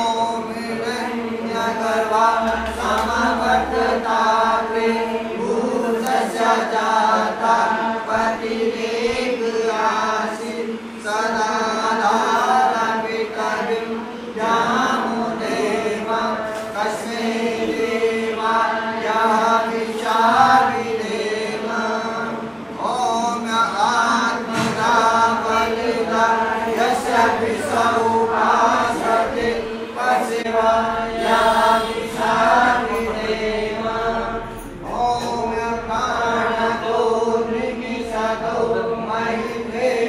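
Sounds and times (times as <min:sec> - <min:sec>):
person chanting: 0:00.0 - 0:40.0
steady drone: 0:00.0 - 0:40.0.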